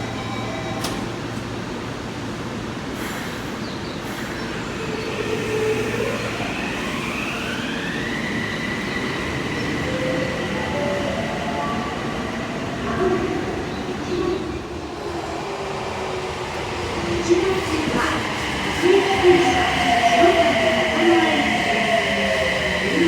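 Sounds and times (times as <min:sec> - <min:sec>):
subway train motor whine: 0:00.0 - 0:23.0
train cars rumbling: 0:00.0 - 0:23.0.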